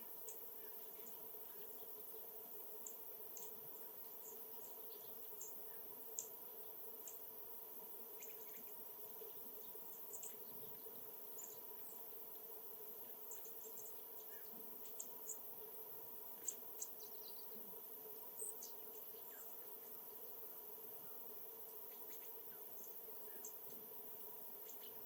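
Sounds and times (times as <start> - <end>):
small birds chirping: 0.0 - 7.4, 8.1 - 15.6, 16.3 - 25.0
faint steady hum: 0.0 - 25.0.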